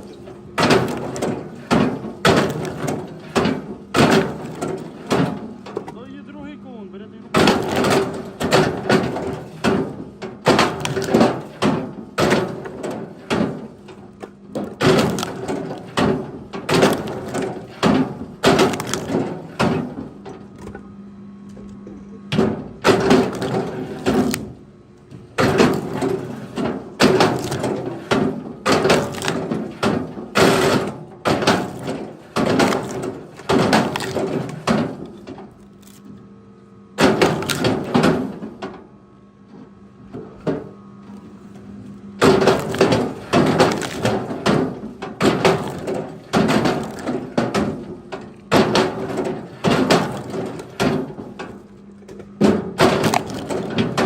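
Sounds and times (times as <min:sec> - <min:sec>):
wood cracking and knocking: 0:00.0 - 0:06.0, 0:07.3 - 0:20.8, 0:22.3 - 0:36.0, 0:37.0 - 0:38.8, 0:42.2 - 0:54.0.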